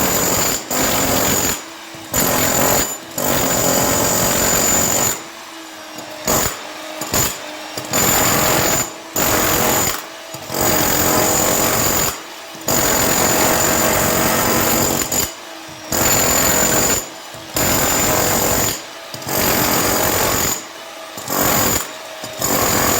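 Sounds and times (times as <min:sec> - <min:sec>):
hammer drill into concrete: 0:00.0 - 0:22.9.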